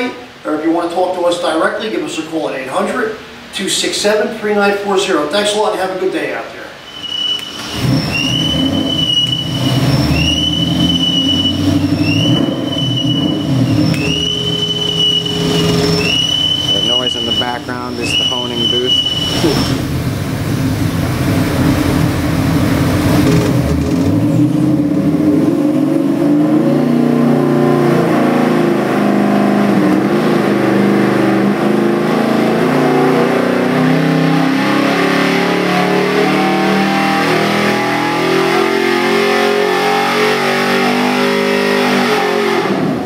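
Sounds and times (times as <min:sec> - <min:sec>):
engine revving up on dynamometer: 0:07.2 - 0:43.0.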